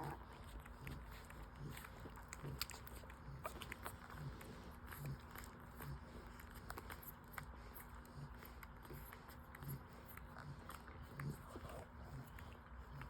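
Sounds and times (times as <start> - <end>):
puppies suckling: 0.0 - 13.0
steady low hum: 0.0 - 13.0.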